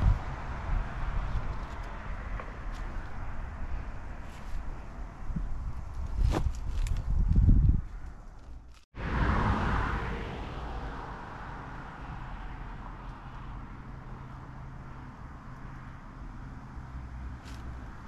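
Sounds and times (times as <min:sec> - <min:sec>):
car tyre and engine noise: 0:00.0 - 0:18.0.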